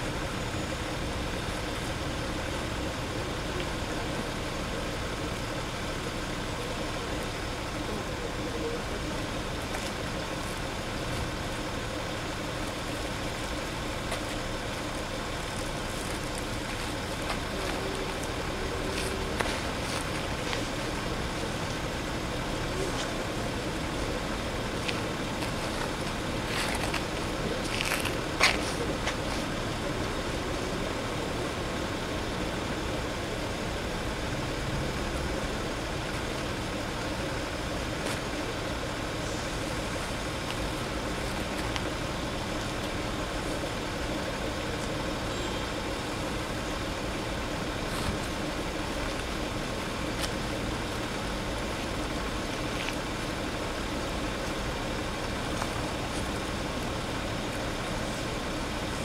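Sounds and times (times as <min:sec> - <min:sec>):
cars idling and passing: 0:00.0 - 0:59.0.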